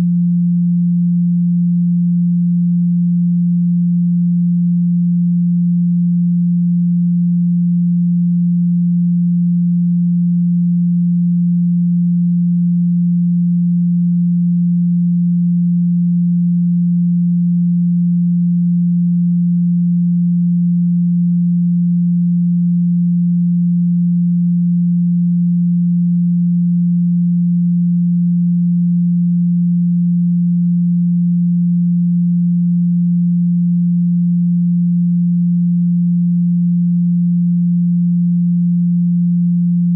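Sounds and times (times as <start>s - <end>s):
steady low pure tone: 0.0s - 39.9s.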